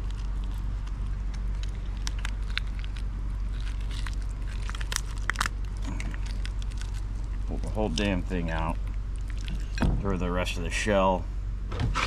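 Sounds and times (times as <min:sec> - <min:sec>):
lobster shell cracking: 0:00.0 - 0:09.9
low mechanical hum: 0:00.0 - 0:12.0.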